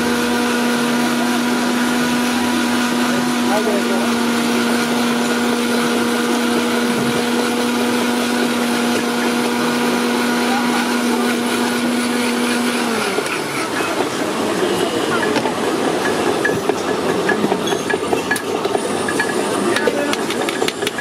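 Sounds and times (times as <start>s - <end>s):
blender motor whining: 0.0s - 21.0s.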